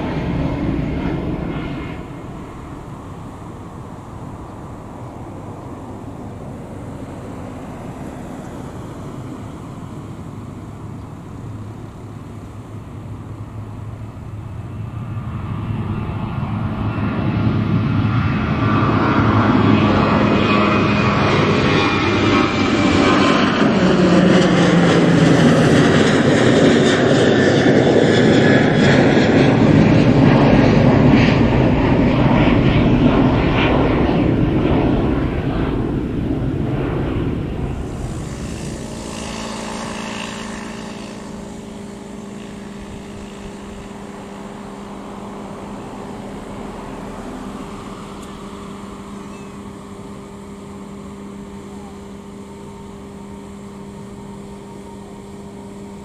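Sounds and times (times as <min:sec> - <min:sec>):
jet engine whine: 0:00.0 - 0:56.0
jet engines rumbling: 0:00.0 - 0:56.0.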